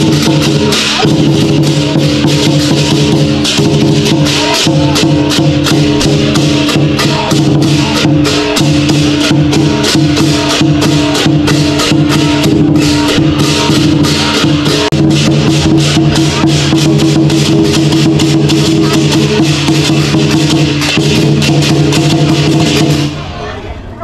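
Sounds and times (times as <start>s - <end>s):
cymbals ringing: 0.0s - 23.4s
drums beating fast: 0.0s - 23.4s.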